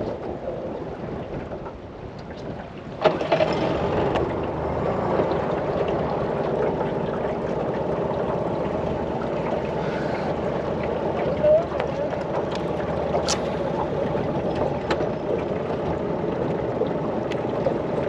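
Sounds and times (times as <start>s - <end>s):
water noise: 0.0s - 18.0s
wind: 0.0s - 18.0s
boat motor running: 3.0s - 18.0s.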